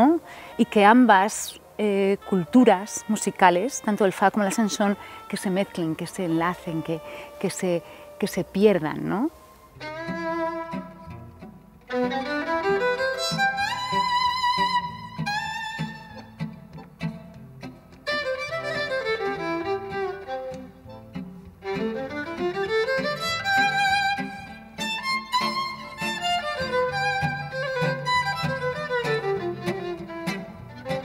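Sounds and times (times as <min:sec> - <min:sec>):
lower musical accompaniment: 0:00.0 - 0:31.0
violin playing fast scales: 0:02.2 - 0:08.5, 0:09.8 - 0:16.4, 0:18.1 - 0:21.0, 0:21.6 - 0:31.0.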